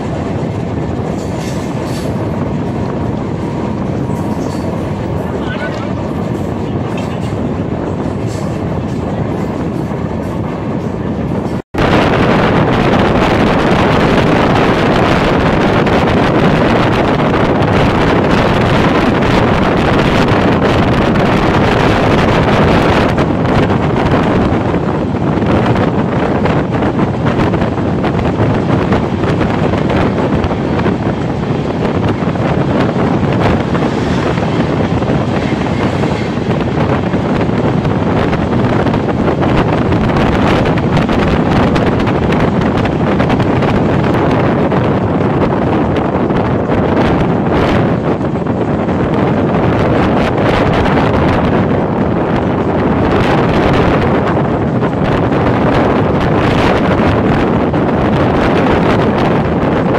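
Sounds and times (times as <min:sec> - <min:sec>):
train running on rails: 0:00.0 - 0:59.9
wind buffeting microphone: 0:00.0 - 0:59.9.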